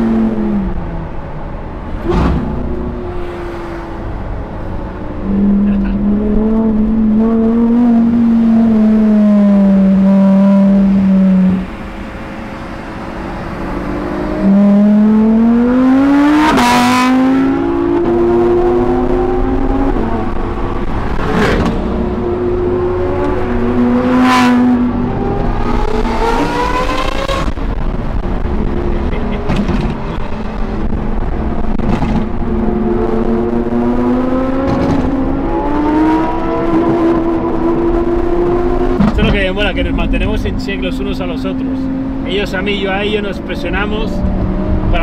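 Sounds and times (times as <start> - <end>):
sports car engine revving: 0.0 - 45.0.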